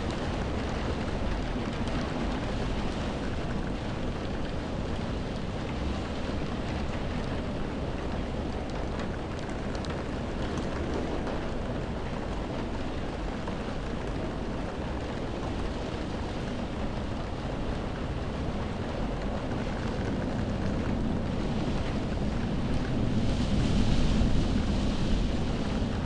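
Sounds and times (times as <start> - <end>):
heavy rain on window glass: 0.0 - 26.0.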